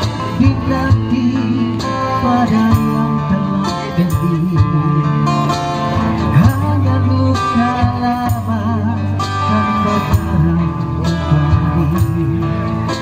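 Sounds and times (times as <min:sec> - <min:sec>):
acoustic guitars strumming: 0:00.0 - 0:13.0
man singing with vibrato: 0:00.0 - 0:13.0.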